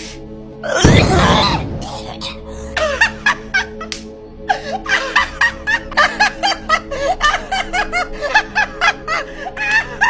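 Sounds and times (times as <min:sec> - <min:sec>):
background music with held chord: 0:00.0 - 0:10.0.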